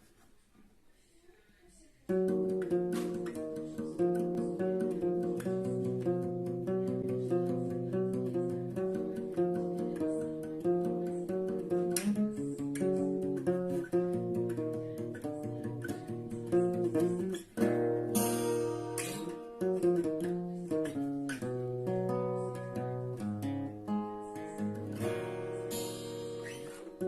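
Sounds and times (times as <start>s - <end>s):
acoustic guitar music: 2.0s - 27.0s.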